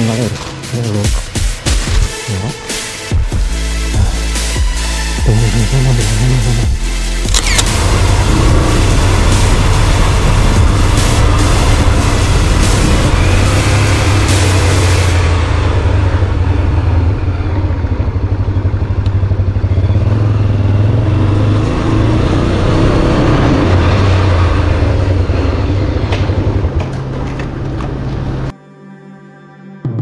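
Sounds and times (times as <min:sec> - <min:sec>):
vehicle engine rumbling: 0:03.5 - 0:28.5.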